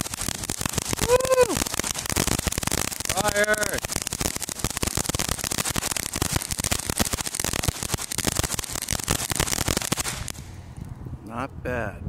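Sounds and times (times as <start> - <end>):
firework crackling: 0.0 - 11.0.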